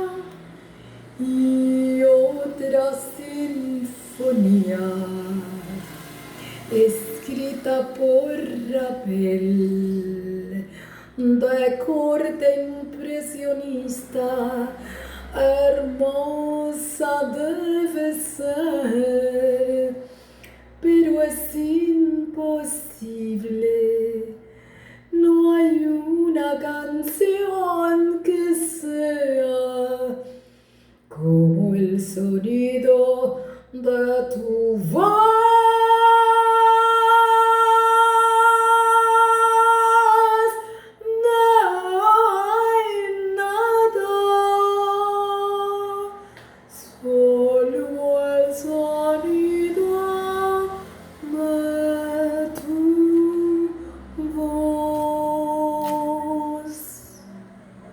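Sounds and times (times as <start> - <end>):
woman singing a slow ballad: 0.0 - 57.4.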